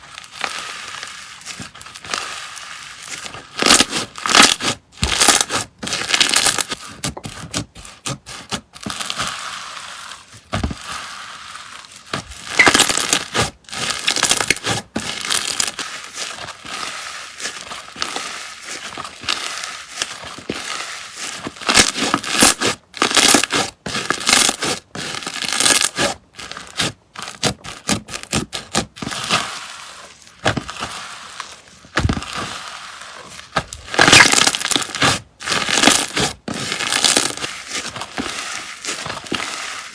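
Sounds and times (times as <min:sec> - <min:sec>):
slime crackling and popping: 0:00.0 - 0:29.4, 0:30.2 - 0:39.9.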